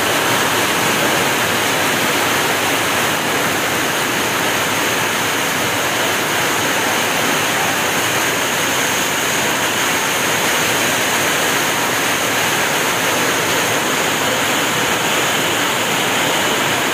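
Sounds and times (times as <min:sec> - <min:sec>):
heavy rain in strong wind: 0:00.0 - 0:16.9.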